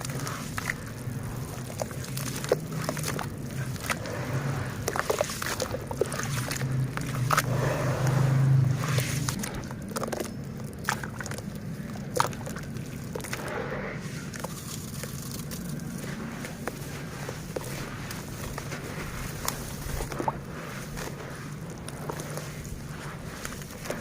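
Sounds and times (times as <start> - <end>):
dirt crumbling in water: 0.0 - 24.0
low hum: 0.0 - 24.0.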